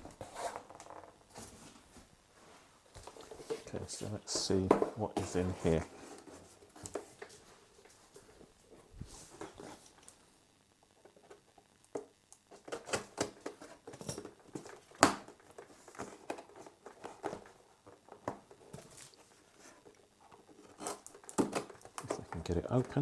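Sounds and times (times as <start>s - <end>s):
packaging rustling and scraping: 0.0s - 10.2s, 12.5s - 23.0s.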